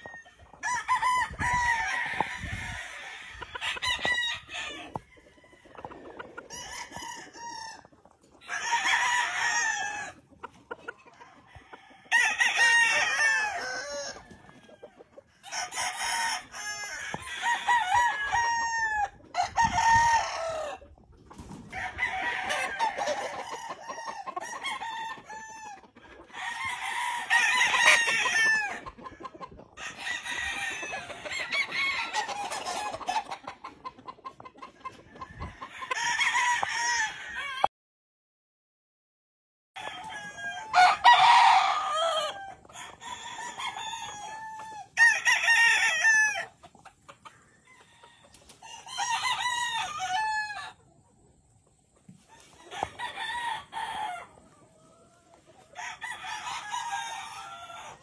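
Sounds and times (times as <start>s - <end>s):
roosters crowing: 0.0s - 33.5s, 35.2s - 37.7s, 39.8s - 46.7s, 47.4s - 50.8s, 52.1s - 58.0s.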